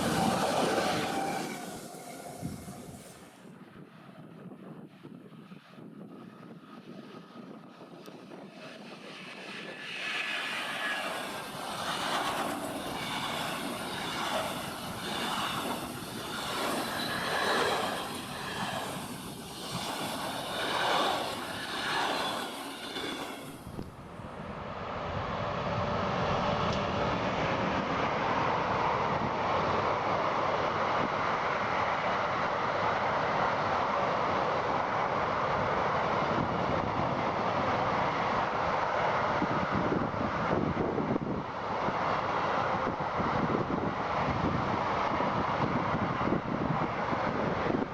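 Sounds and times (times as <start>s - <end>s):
train rolling past: 0.0s - 5.1s, 6.2s - 47.9s.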